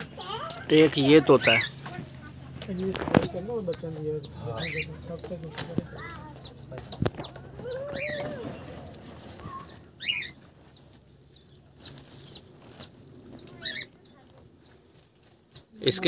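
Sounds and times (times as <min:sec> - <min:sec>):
chicken clucking: 0:00.0 - 0:14.8
sharp loud bird calls: 0:00.0 - 0:14.8
birds chirping: 0:00.0 - 0:16.0.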